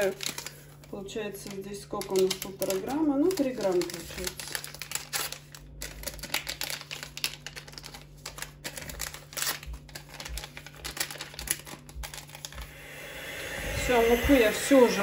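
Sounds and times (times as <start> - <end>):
paper rustling and crinkling: 0.0 - 12.7.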